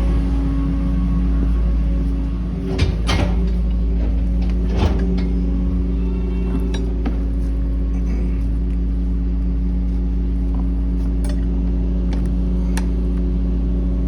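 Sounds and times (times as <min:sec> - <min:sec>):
pickup engine humming: 0:00.0 - 0:13.1.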